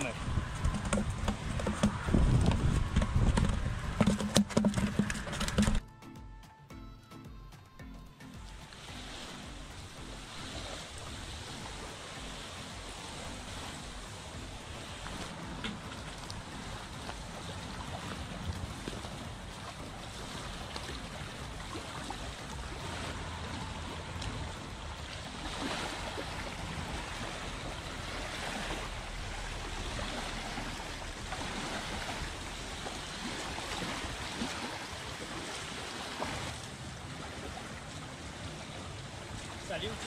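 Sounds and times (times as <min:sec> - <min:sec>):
sea water lapping at shore: 0:00.0 - 0:05.8, 0:08.1 - 0:40.0
water splashes: 0:00.0 - 0:05.8, 0:08.3 - 0:40.0
wind on microphone: 0:00.0 - 0:05.8, 0:09.2 - 0:35.6.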